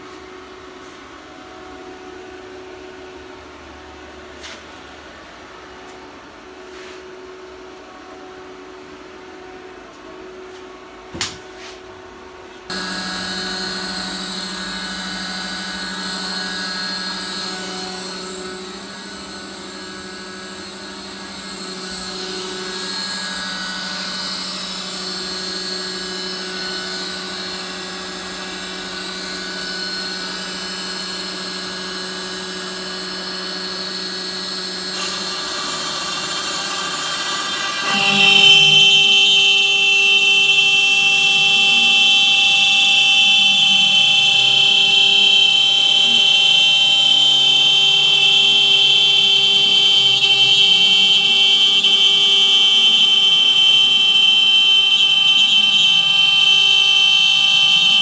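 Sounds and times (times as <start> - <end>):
router machine whining hum: 0.0 - 58.0.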